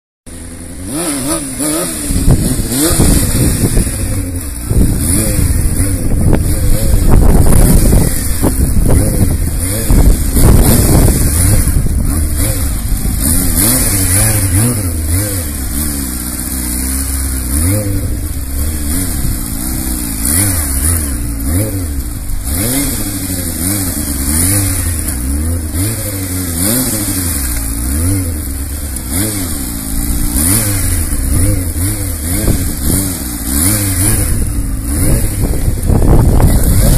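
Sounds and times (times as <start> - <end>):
motorcycle engine revving: 0.3 - 36.9.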